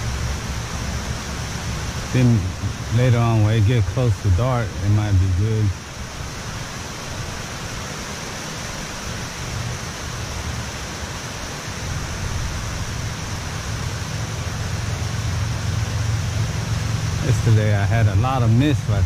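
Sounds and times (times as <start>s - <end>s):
water rushing through dam gates: 0.0s - 19.0s.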